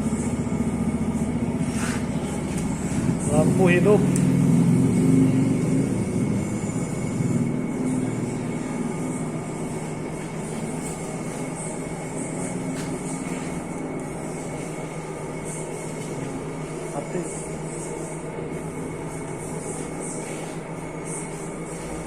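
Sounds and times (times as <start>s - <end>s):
lathe motor humming: 0.0s - 22.0s.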